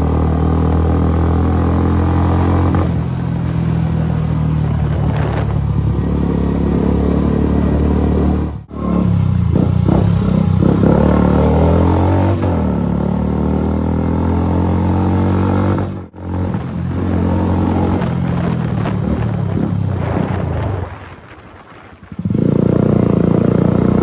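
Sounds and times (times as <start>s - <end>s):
motorcycle engine running: 0.0s - 14.6s, 15.8s - 24.0s.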